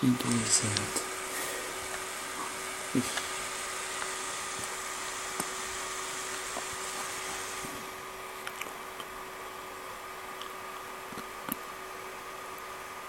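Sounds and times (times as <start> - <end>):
laptop cooling fan humming: 0.0 - 13.0.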